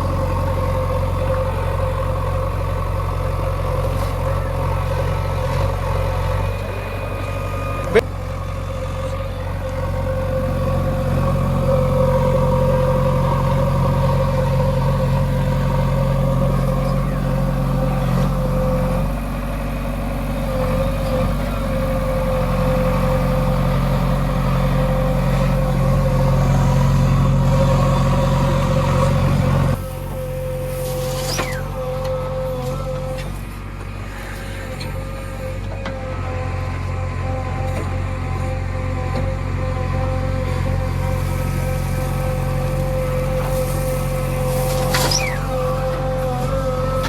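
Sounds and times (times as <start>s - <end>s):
diesel engine running: 0.0s - 47.0s
steady whine: 0.0s - 47.0s.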